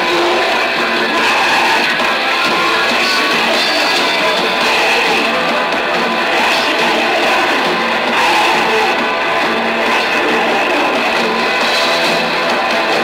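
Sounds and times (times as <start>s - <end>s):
punk rock band playing: 0.0s - 13.0s.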